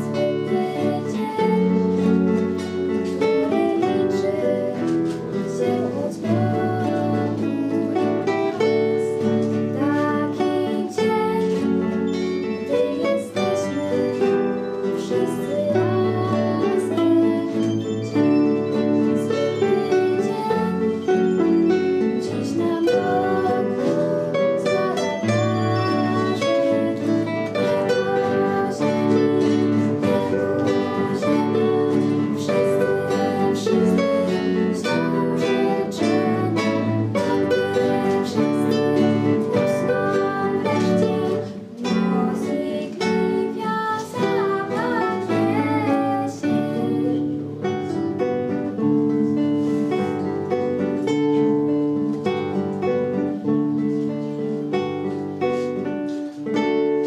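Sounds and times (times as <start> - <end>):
classical guitars playing: 0.0 - 57.0.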